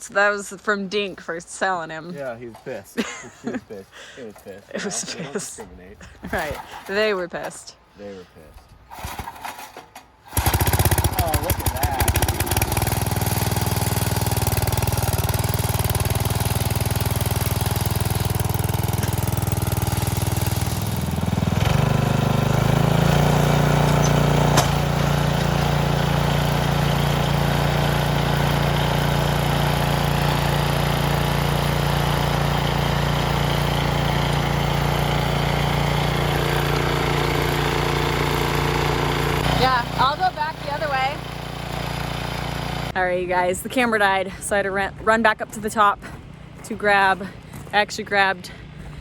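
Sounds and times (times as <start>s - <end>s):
garden tiller engine running: 8.9s - 49.0s.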